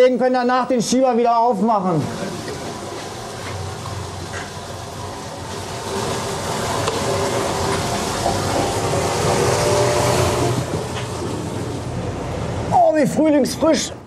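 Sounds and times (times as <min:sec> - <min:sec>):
mechanical hum: 0:00.0 - 0:14.0
wastewater rushing through pipe: 0:01.7 - 0:13.2.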